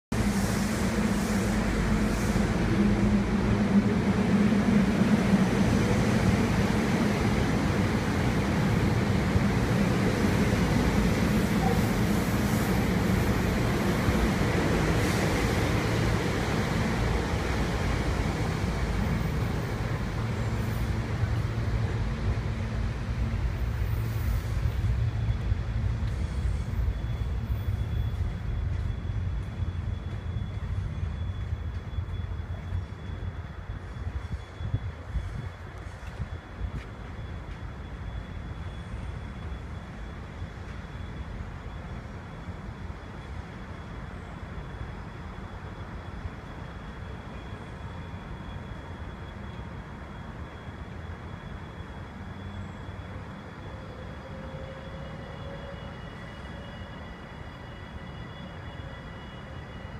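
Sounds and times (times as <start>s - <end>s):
train wheels rumbling on rails: 0.1s - 59.9s.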